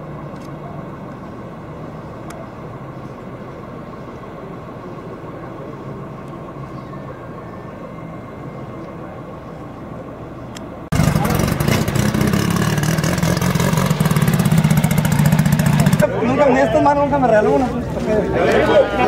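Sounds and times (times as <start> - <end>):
street noise: 0.0 - 19.0
vehicle engine idling: 0.0 - 19.0.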